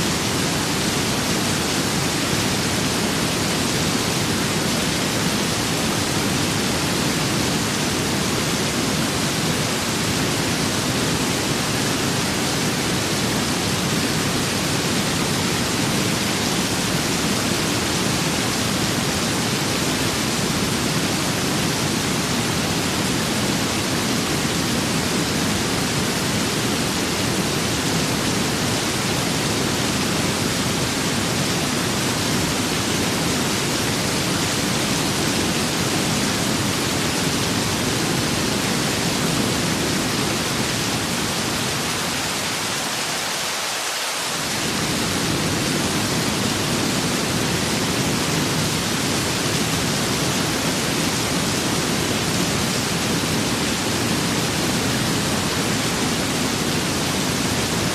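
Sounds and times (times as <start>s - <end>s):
rain and wind hiss: 0.0s - 57.9s.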